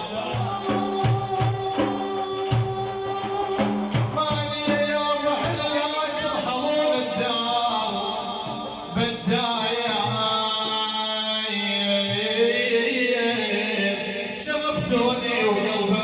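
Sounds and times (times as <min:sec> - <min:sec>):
man chanting religious ode: 0:00.0 - 0:16.0.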